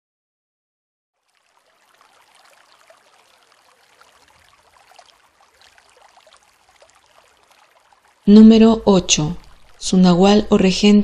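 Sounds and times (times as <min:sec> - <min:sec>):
running water with dripping ticks: 0:01.2 - 0:11.0.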